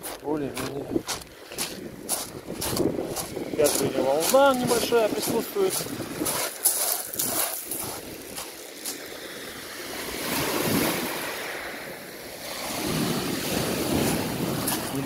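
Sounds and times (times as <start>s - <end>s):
waves washing up a pebble beach: 1.2s - 15.0s.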